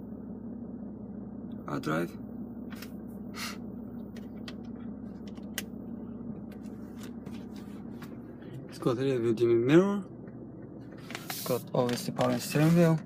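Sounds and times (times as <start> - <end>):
car cabin low hum: 0.0 - 13.0.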